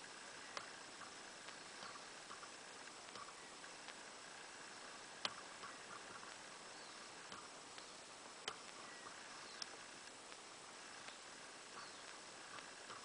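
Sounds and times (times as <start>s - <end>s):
sharp ticks: 0.0s - 13.0s
steady hiss: 0.0s - 13.0s.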